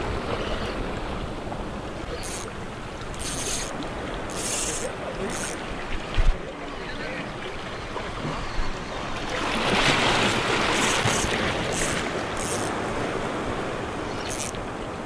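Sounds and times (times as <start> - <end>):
sea waves on rocky shore: 0.0 - 15.0.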